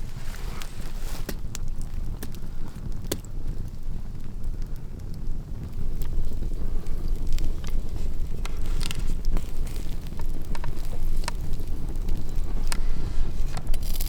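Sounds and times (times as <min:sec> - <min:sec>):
campfire crackles: 0:00.0 - 0:14.0.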